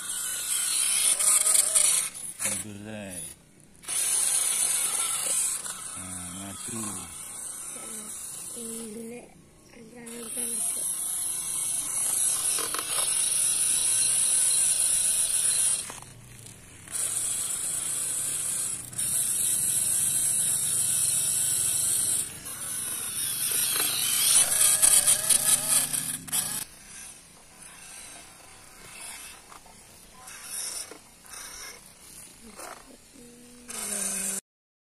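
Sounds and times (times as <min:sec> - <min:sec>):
small electric motor whining: 0:00.0 - 0:34.4.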